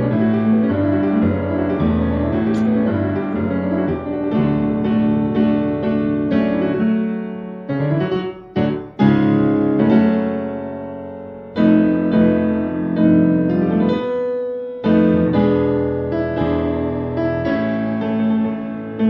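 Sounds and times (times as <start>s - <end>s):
solo piano chords: 0.0s - 19.0s.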